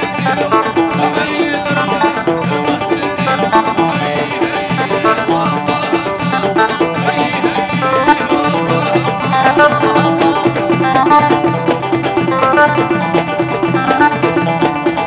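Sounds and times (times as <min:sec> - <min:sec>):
hand drums: 0:00.0 - 0:15.0
plucked banjo and guitar: 0:00.0 - 0:15.0.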